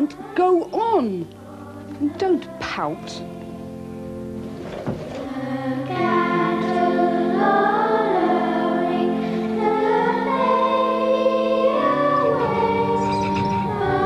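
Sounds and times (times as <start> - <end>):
children's choir singing: 0.0 - 3.9, 4.6 - 14.0.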